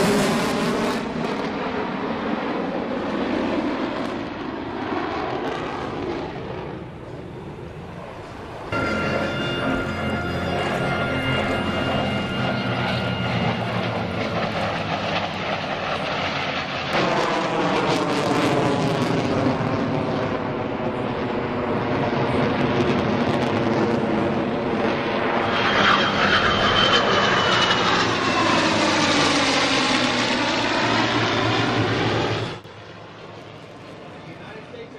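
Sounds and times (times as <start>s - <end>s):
jet engine noise: 0.0s - 34.9s
propeller engines droning: 0.0s - 34.9s.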